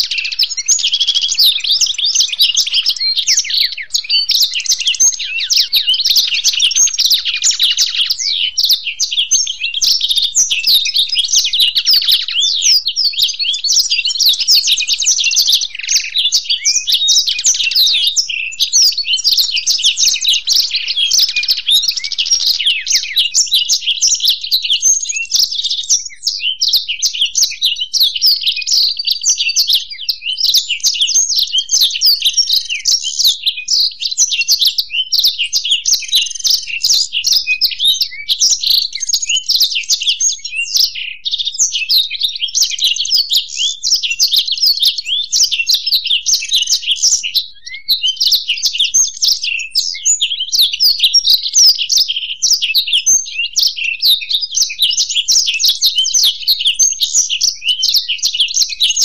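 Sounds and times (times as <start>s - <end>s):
birds twittering and trilling: 0.0s - 59.0s.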